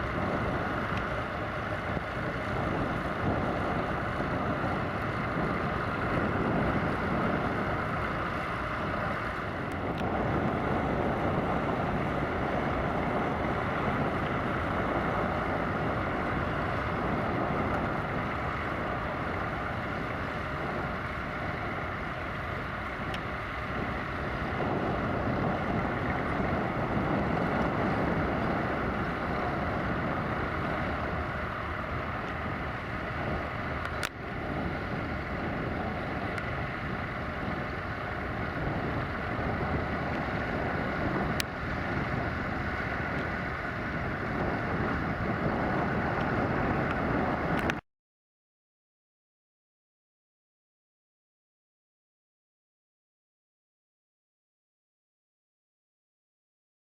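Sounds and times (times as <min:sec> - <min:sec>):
wind rumbling on microphone: 0:00.0 - 0:47.8.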